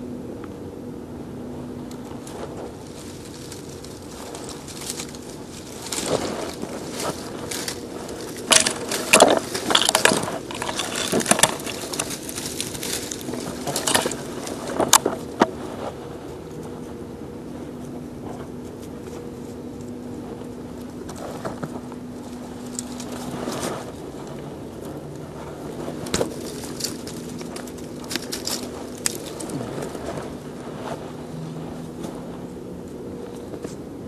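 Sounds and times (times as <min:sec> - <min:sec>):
dry weed stalks crackling: 0:01.4 - 0:34.0.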